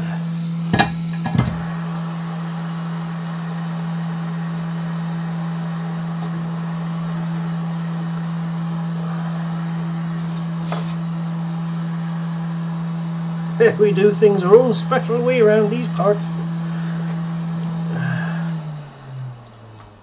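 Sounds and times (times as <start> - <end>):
hot air blower hum and hiss: 0.0 - 20.0.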